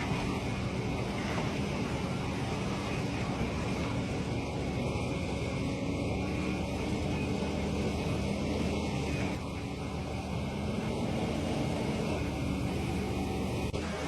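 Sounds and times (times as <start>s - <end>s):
heavy machine engine droning: 0.0s - 14.0s.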